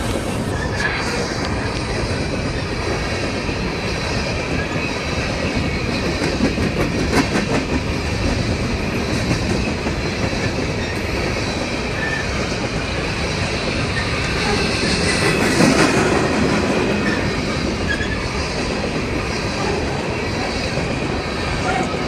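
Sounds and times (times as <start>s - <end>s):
train cars clanking: 0.0s - 22.0s
train wheels rumbling on rail: 0.0s - 22.0s.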